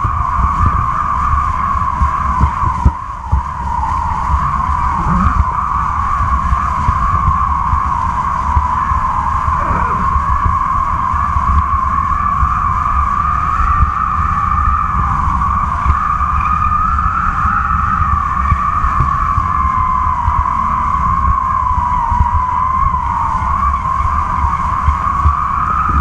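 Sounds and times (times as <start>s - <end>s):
heavy wind rumble: 0.0s - 26.0s
kite line humming: 0.0s - 26.0s.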